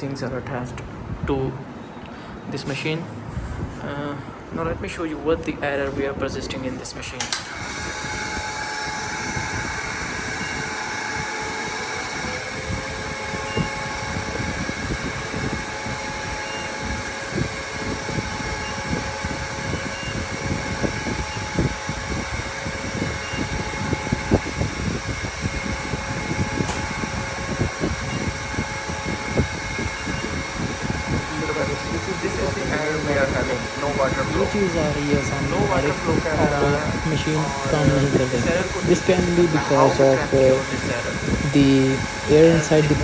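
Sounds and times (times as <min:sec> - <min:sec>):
machine fan and pump hum: 0:00.0 - 0:43.0.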